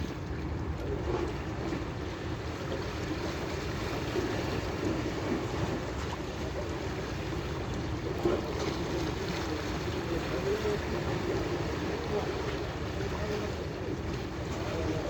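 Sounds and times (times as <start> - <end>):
sea wash: 0.0 - 15.0.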